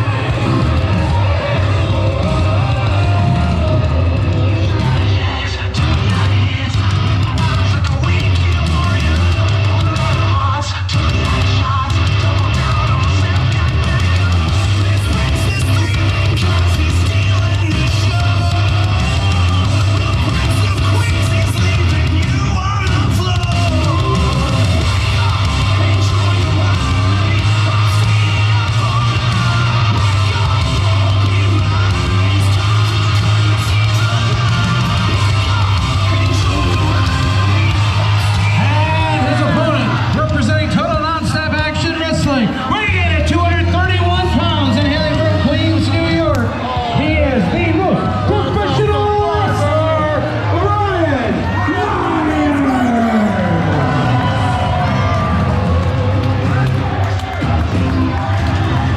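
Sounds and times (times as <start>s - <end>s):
arena crowd noise: 0.0s - 58.9s
rock music with shouted vocals: 0.0s - 58.9s.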